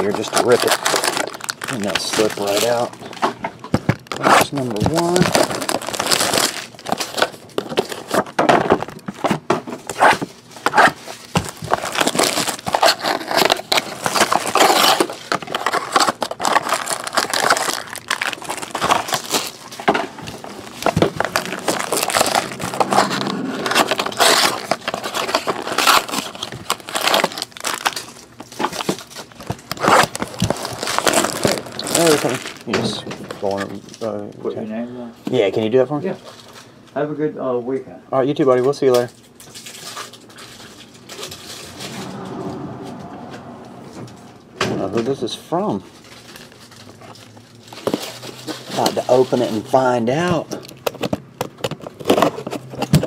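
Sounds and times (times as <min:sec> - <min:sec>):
plastic wrappers crinkling and tearing: 0:00.0 - 0:34.2, 0:38.8 - 0:41.8, 0:45.1 - 0:53.0.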